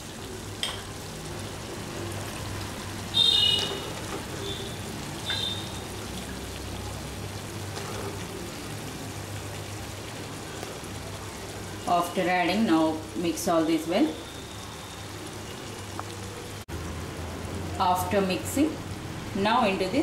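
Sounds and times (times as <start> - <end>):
chicken sizzling in oil: 0.0 - 20.0.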